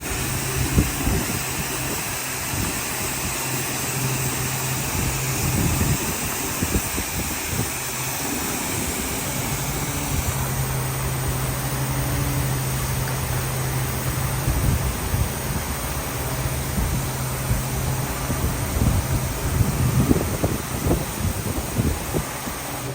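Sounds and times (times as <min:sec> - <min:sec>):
car wash machine hum: 0:00.0 - 0:22.9
steady hiss: 0:00.0 - 0:22.9.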